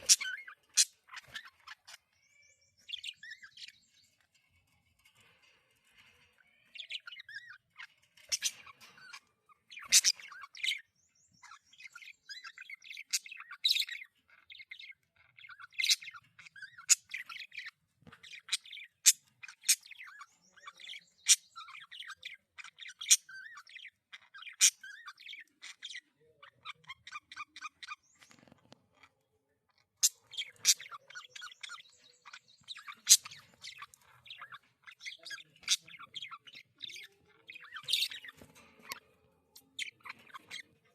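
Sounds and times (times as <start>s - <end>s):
budgerigars warbling and chattering: 0.0s - 40.9s.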